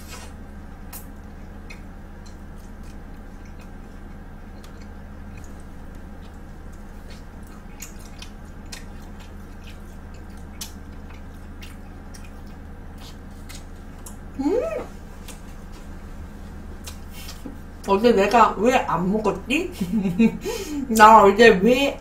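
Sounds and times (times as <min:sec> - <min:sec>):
chewing and biting pizza: 0:00.0 - 0:18.6
steady low hum: 0:00.0 - 0:22.0.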